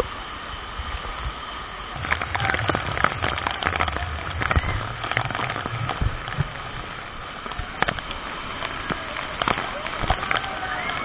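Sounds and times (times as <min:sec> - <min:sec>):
rain falling: 0:00.0 - 0:11.0
rushing water: 0:00.0 - 0:11.0
raindrops tapping: 0:01.9 - 0:11.0.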